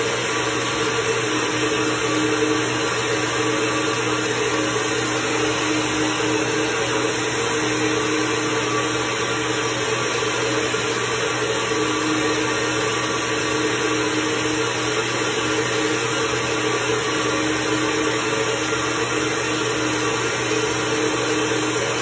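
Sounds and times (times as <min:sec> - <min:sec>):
steady motor drone: 0:00.0 - 0:22.0.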